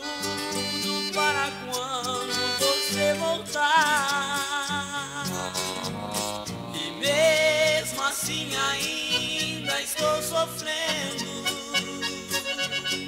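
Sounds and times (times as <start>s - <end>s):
country song: 0.0s - 13.0s
guitar and bass accompaniment: 0.0s - 13.0s.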